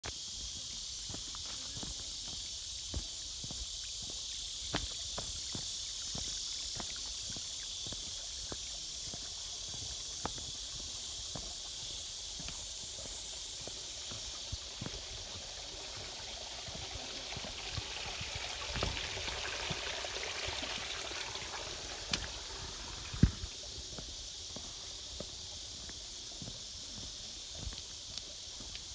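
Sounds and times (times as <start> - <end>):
insects chorus: 0.0 - 28.9
trickle of running water: 0.1 - 28.9.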